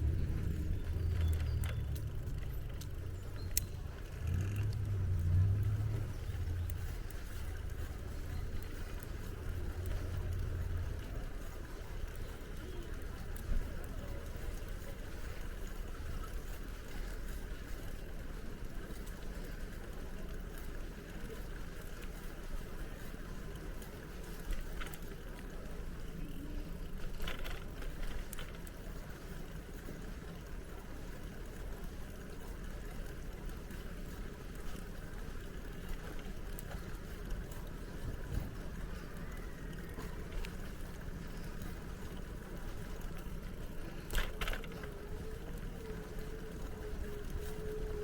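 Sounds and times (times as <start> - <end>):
bicycle tyres rumbling: 0.0 - 48.0
small clicks and rattles: 0.0 - 48.0.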